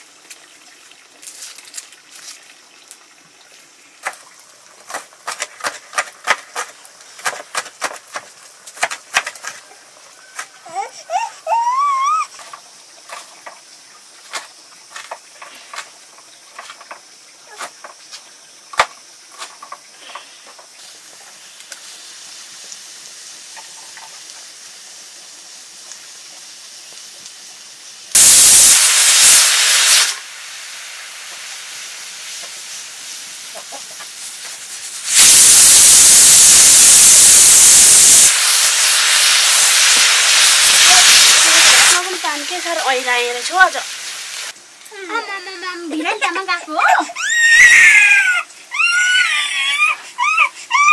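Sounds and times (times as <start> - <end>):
food sizzling in a hot pan: 0.0 - 50.9.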